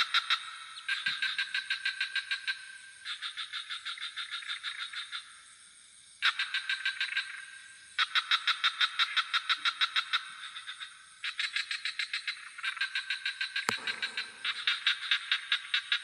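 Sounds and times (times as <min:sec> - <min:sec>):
frogs calling in pulsed trills: 0:00.0 - 0:16.0.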